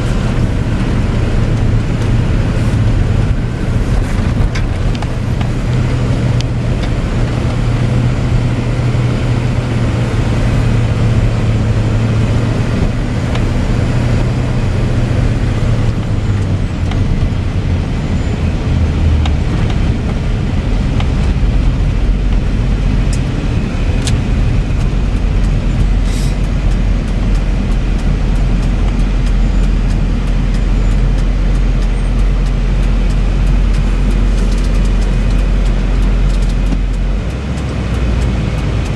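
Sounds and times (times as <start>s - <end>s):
diesel truck engine droning: 0.0s - 38.9s.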